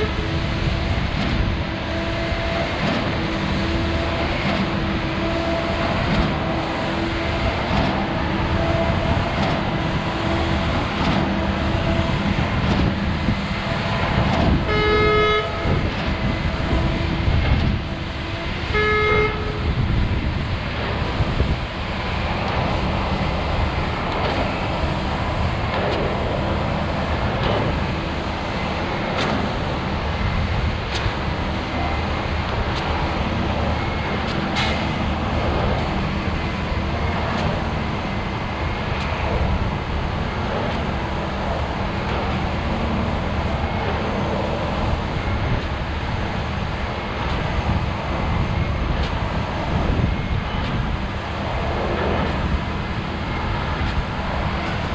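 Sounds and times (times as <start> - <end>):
vehicle rumbling: 0.0 - 54.9.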